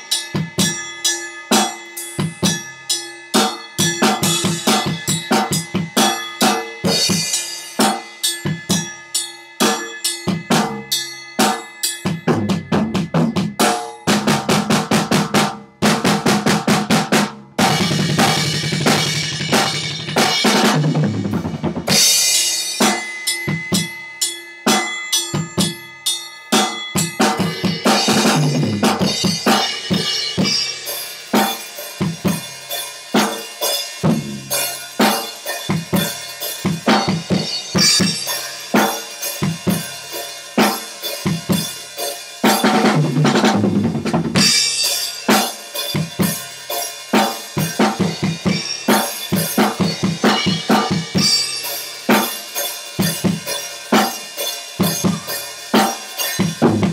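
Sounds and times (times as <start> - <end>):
drum kit playing a beat: 0.0 - 56.9.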